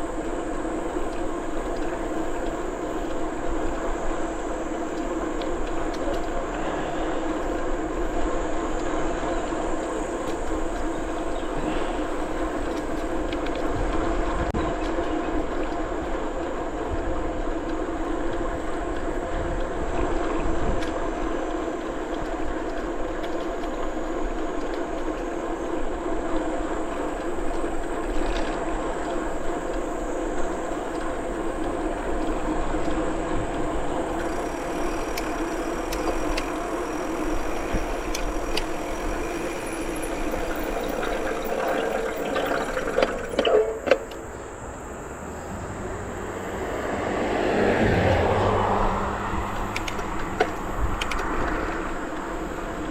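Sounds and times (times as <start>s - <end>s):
bicycle tyres and drivetrain hum: 0.0s - 52.9s.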